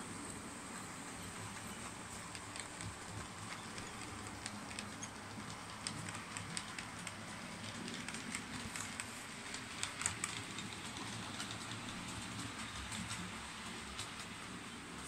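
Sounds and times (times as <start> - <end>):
faint steady hum and hiss: 0.0 - 15.0
model train wheels clicking: 1.4 - 15.0.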